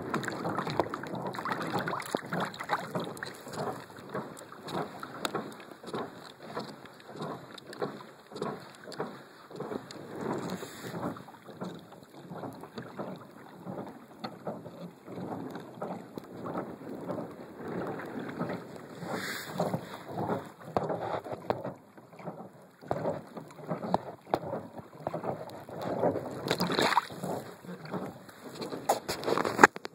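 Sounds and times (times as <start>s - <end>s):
water splashing against kayak: 0.0s - 29.9s.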